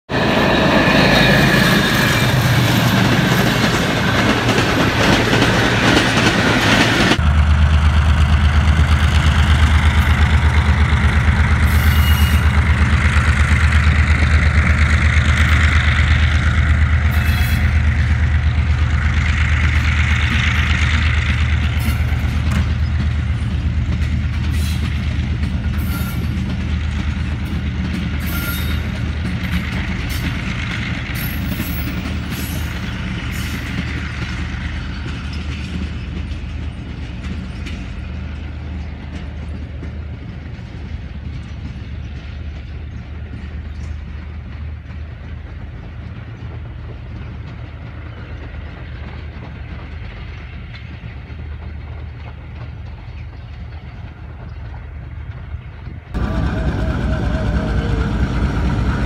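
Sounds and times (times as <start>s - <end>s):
passing train rumble: 0.0s - 59.0s
diesel locomotive engine drone: 0.1s - 59.0s
train coaches clicking: 0.6s - 59.0s.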